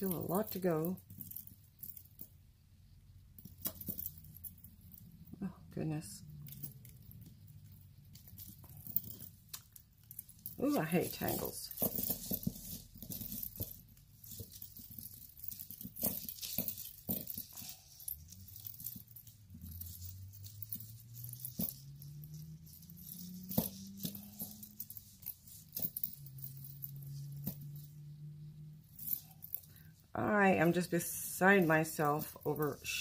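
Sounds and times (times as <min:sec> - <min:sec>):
faint low hum: 0:00.0 - 0:33.0
jewelry chains clicking and jingling: 0:00.0 - 0:33.0.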